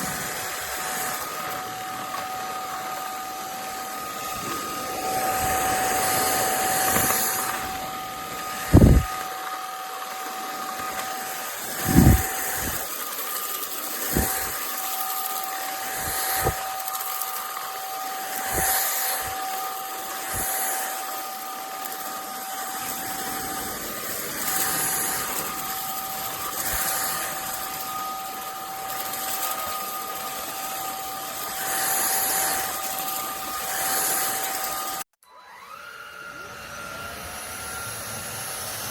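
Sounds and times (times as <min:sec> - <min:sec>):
stick vacuum motor whining: 0:00.0 - 0:38.9.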